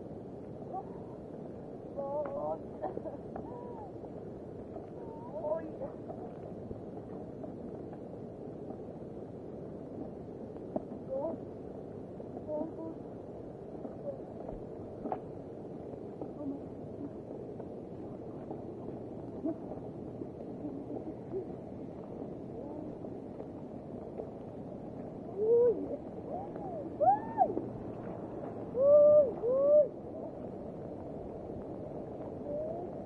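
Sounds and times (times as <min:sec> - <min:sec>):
heavy rain: 0:00.0 - 0:33.0.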